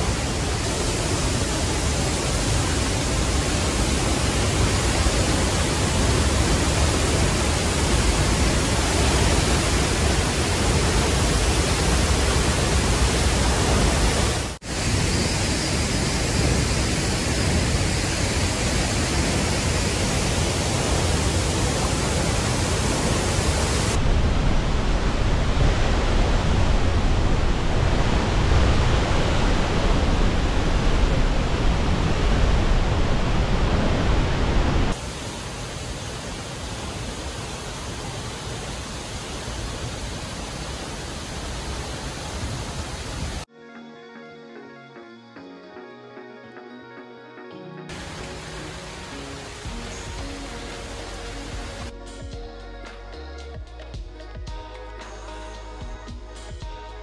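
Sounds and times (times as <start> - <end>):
waterfall rushing: 0.0 - 43.5, 47.9 - 51.9.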